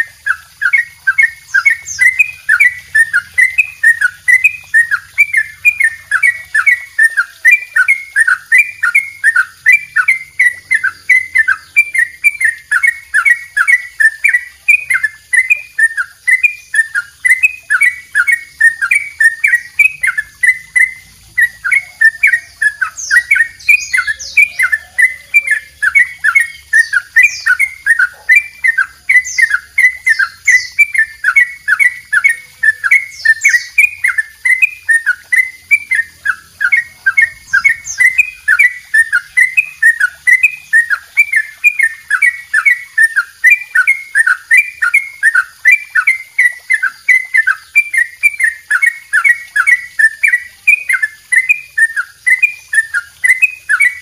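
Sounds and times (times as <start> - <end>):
bird singing whistled notes: 0.0 - 54.0
thin high bird chirps: 0.0 - 54.0.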